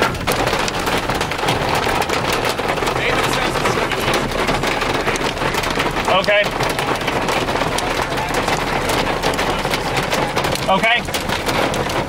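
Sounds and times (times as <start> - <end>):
rain and hail pelting a car: 0.0 - 12.0.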